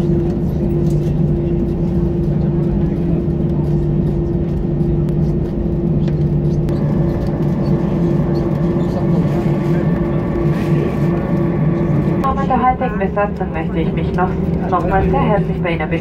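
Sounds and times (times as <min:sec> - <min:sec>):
aircraft rolling on ground: 0:00.0 - 0:16.0
high steady whine: 0:00.0 - 0:16.0
jet engines droning: 0:00.0 - 0:16.0.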